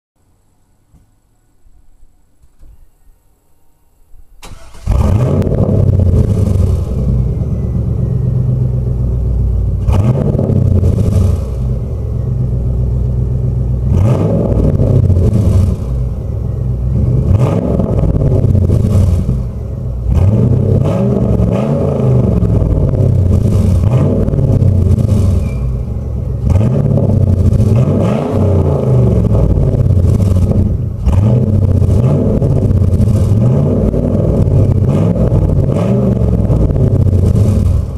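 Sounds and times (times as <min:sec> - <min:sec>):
car engine idling and revving: 0:04.4 - 0:37.9
car engine starting: 0:04.4 - 0:37.9.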